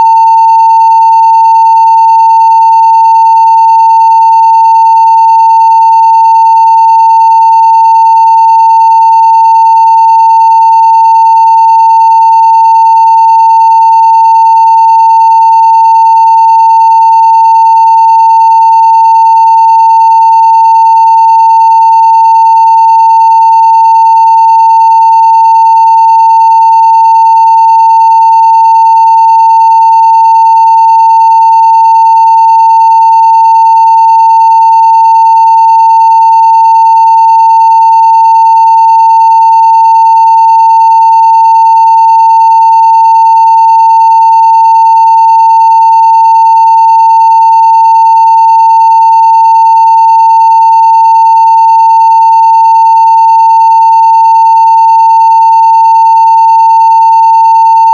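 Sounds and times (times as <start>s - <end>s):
sine-wave test tone: 0.0s - 57.9s.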